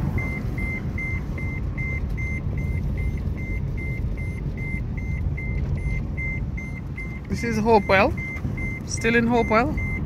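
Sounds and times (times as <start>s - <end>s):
car engine and tyre rumble: 0.0s - 10.0s
high-pitched warning beeps: 0.2s - 10.0s.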